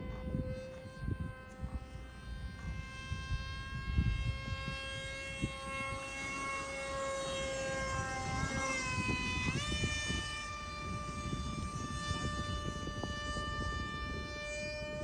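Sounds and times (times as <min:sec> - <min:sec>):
model plane motor whining: 0:00.0 - 0:15.0
wind on microphone: 0:00.0 - 0:15.0.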